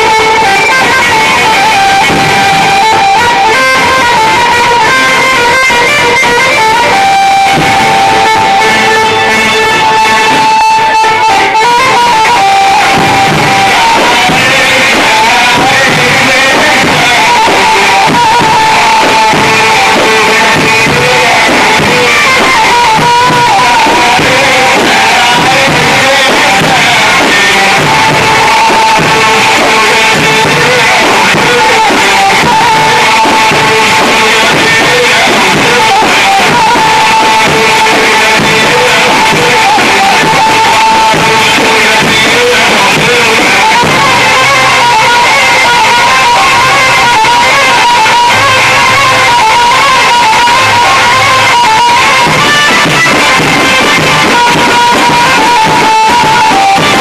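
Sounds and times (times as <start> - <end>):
person singing: 0.0 - 57.0
plucked string instrument: 0.0 - 57.0.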